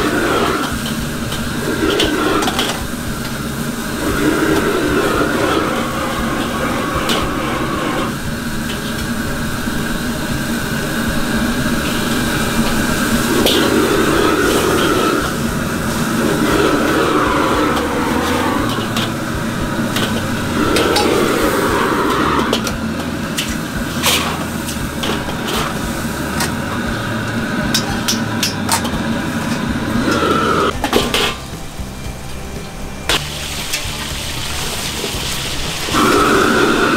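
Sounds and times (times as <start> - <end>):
metal ladle clanging and scraping wok: 0.0 - 31.8
gas wok burner roaring: 0.0 - 36.9.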